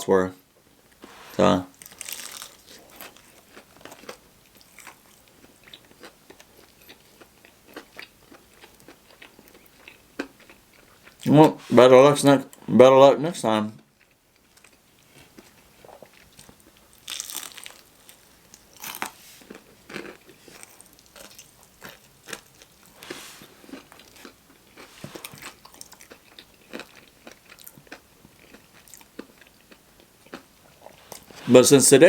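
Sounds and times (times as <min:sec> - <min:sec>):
crunchy chewing of fried chicken: 0:00.6 - 0:11.8, 0:13.8 - 0:31.5.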